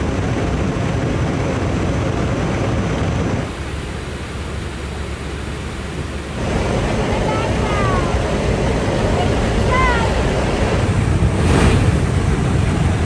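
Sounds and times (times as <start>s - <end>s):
aircraft in flight: 0.0s - 13.0s.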